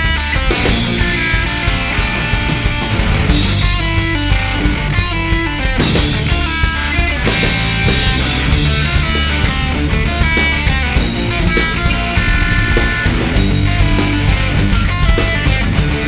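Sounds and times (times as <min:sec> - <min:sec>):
rock song with electric guitar: 0:00.0 - 0:16.0.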